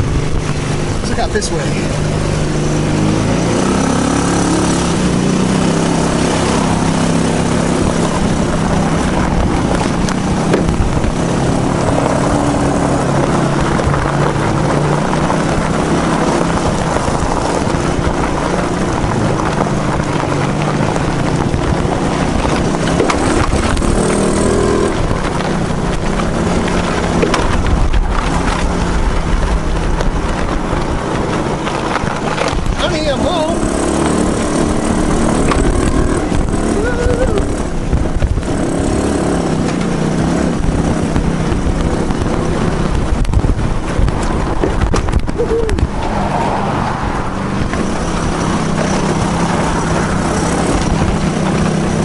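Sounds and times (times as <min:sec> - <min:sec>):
go-kart engine running: 0:00.0 - 0:52.0.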